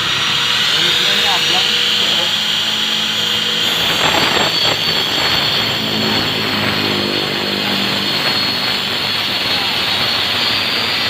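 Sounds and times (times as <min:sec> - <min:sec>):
angle grinder cutting plywood: 0:00.0 - 0:11.0.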